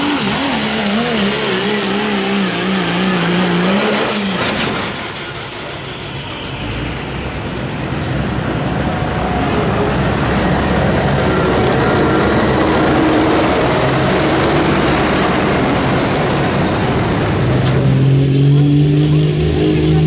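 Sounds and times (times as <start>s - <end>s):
loud engine running hard: 0.0s - 20.0s.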